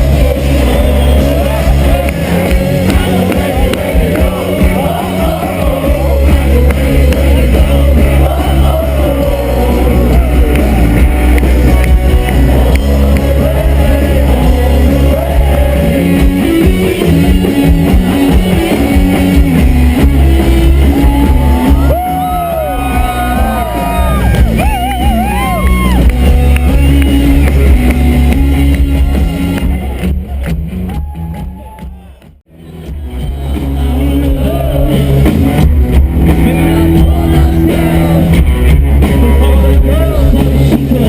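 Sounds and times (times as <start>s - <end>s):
person singing: 0.0s - 30.0s, 31.2s - 41.0s
loud rock music: 0.0s - 41.0s.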